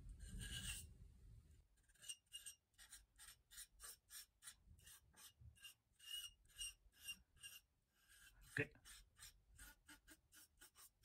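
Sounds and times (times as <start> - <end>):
palette knife scraping paper: 1.8 - 11.0.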